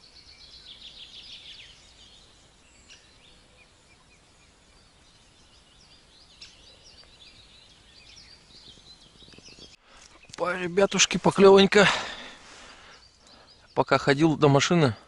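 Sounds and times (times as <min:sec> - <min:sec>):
faint songbirds singing: 0:00.0 - 0:15.0.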